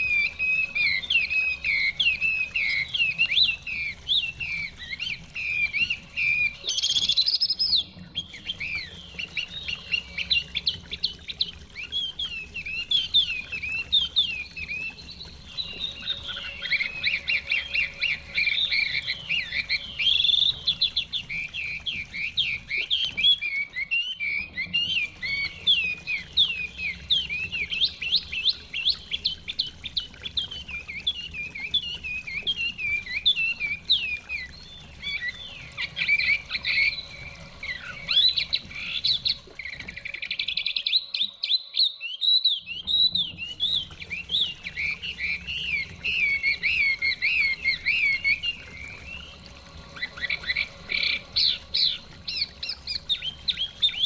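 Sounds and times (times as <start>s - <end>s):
songbird singing whistled phrases: 0.0s - 54.0s.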